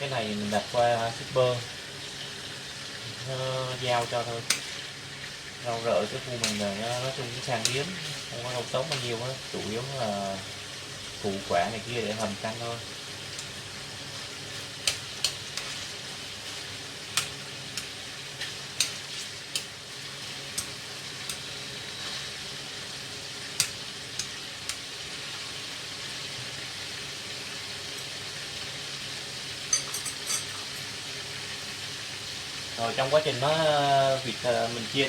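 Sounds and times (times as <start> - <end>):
meat sizzling in hot oil: 0.0 - 35.0.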